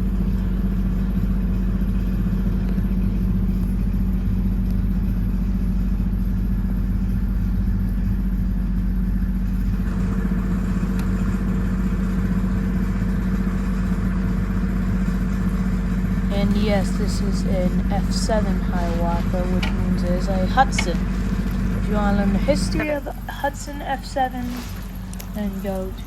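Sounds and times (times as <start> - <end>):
small engine running steadily: 0.0 - 26.0.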